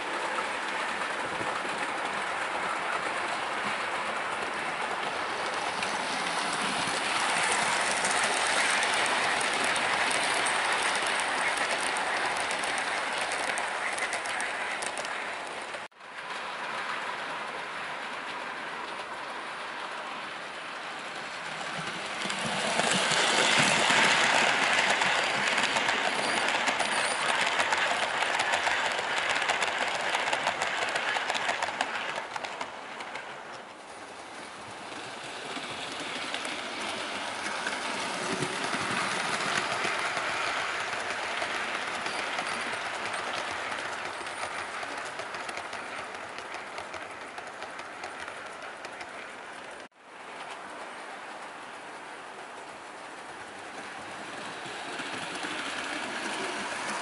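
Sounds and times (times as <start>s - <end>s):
clicking over rail joints: 0.0s - 17.6s, 20.1s - 57.0s
model train wheels rumbling: 0.0s - 57.0s.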